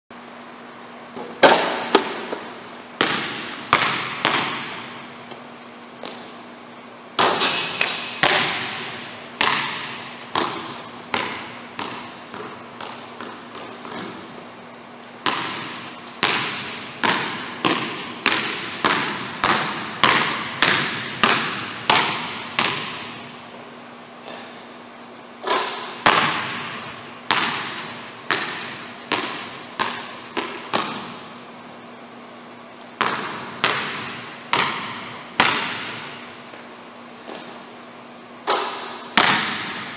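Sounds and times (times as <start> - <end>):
faint steady hum: 0.1 - 39.9
basketball bouncing on gym floor: 1.1 - 6.5, 7.1 - 14.5, 15.2 - 23.6, 25.4 - 31.6, 32.8 - 37.8, 38.4 - 39.9.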